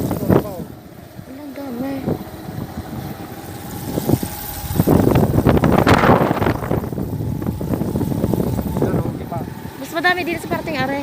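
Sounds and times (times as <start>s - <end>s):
rattly noise: 0.0s - 11.0s
vehicle engine running: 0.0s - 11.0s.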